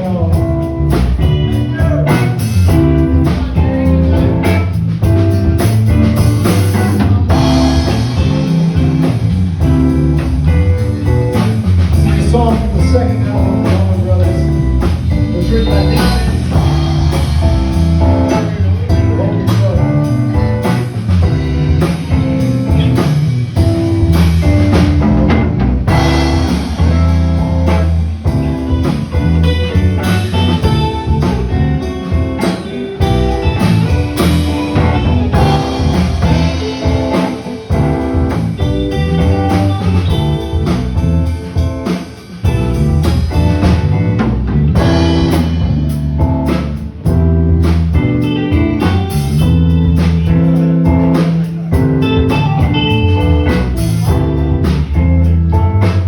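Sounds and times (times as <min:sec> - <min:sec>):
drum kit: 0:00.0 - 0:56.0
guitar playing: 0:00.0 - 0:56.0.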